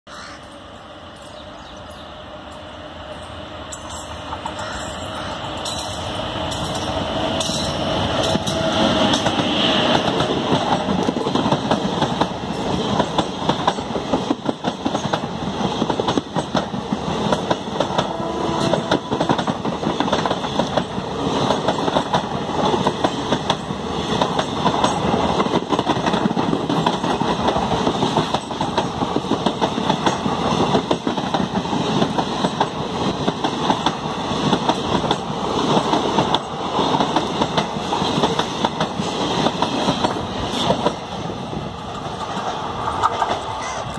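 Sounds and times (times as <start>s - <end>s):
train wheels rumbling on rail: 0.2s - 43.9s.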